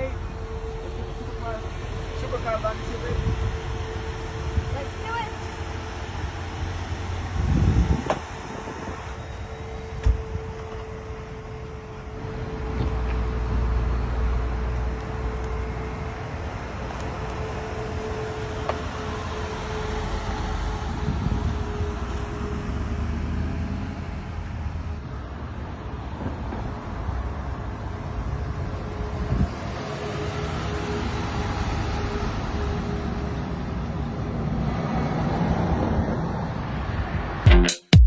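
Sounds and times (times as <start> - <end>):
vehicle engine rumble: 0.0 - 37.4
road noise: 0.0 - 37.5.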